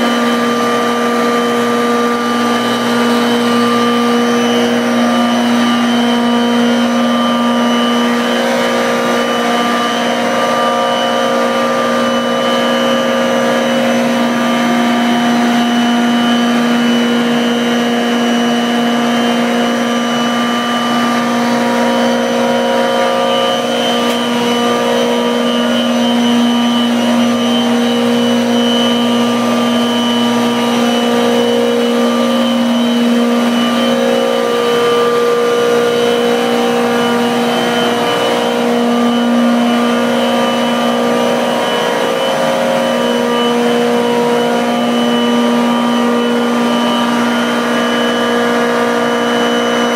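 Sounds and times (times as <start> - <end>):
refrigeration compressor humming: 0.0 - 49.9.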